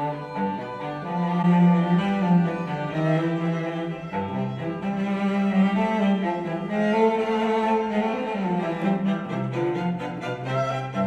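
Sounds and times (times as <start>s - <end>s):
classical string music with cello: 0.0s - 11.0s.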